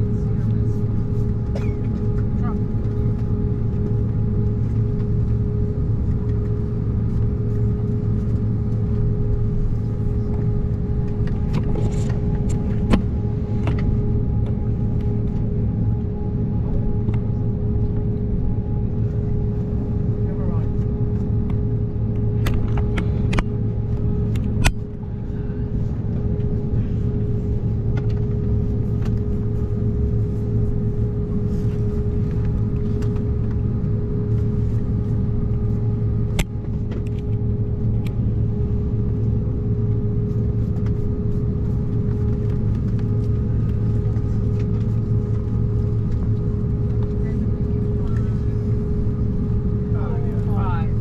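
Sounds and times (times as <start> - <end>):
airliner cabin hum: 0.0 - 51.0.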